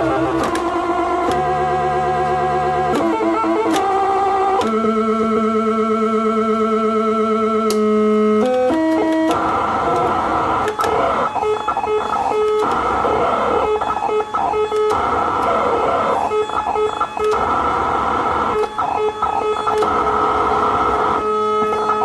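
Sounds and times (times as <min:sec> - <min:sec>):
gritty toy synthesizer notes: 0:00.0 - 0:22.0.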